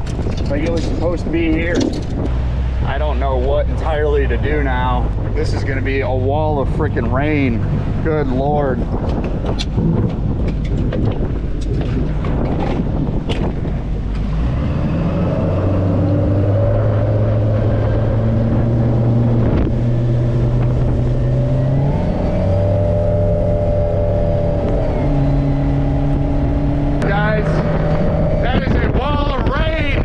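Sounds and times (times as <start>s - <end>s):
boat motor running: 0.0s - 30.0s
wind rushing: 0.0s - 30.0s.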